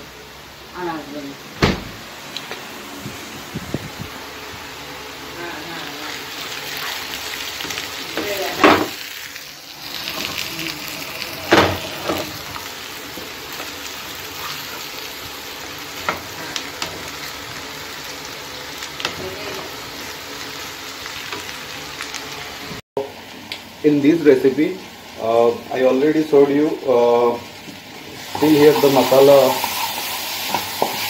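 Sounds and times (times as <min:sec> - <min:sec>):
onions sizzling in hot oil: 0:02.2 - 0:31.0.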